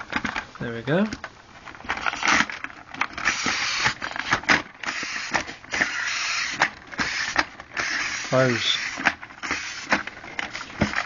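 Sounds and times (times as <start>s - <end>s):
plastic scraping rattles: 0.0s - 11.0s.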